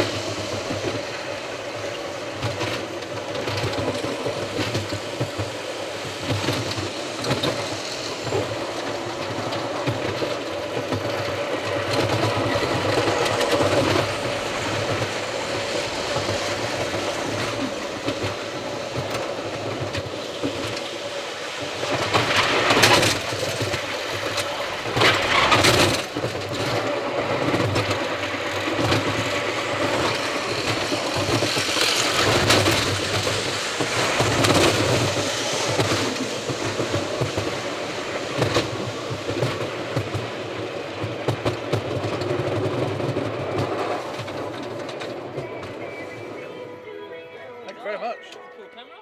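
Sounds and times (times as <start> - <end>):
roller coaster rattling rumble: 0.0 - 49.0.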